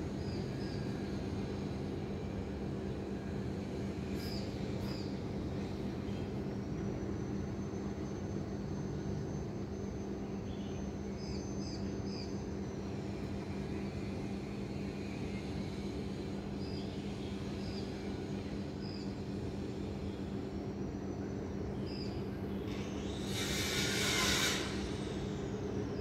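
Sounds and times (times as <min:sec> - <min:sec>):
low city drone: 0:00.0 - 0:26.0.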